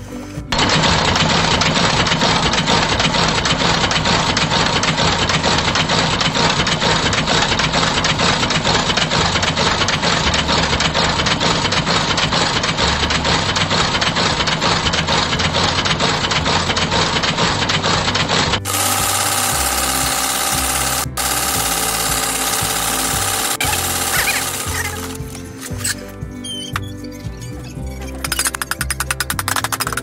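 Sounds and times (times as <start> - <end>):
stitching machine rattling: 0.5 - 25.6.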